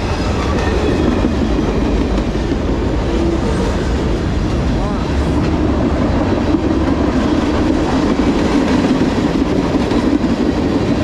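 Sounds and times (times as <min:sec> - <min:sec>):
freight train wheels clattering: 0:00.0 - 0:11.0.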